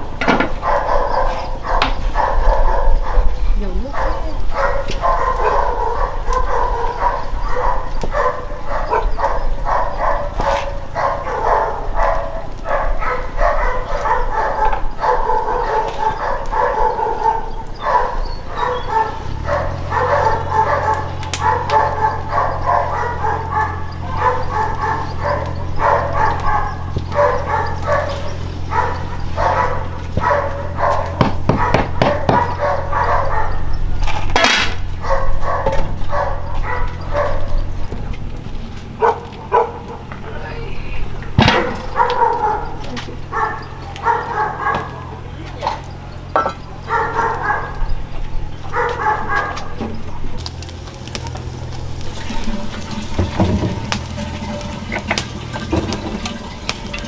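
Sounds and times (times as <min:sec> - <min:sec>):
dogs barking and yelping: 0:00.0 - 0:57.0.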